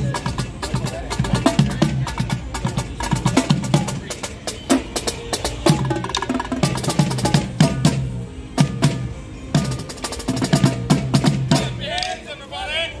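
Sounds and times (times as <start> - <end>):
marching snare and tenor drums: 0.0 - 12.2.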